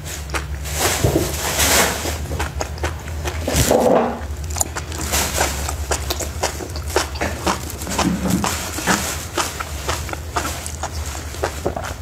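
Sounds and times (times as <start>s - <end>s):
wet chewing smacks: 0.0s - 1.0s, 1.7s - 12.0s
low steady hum: 0.0s - 12.0s.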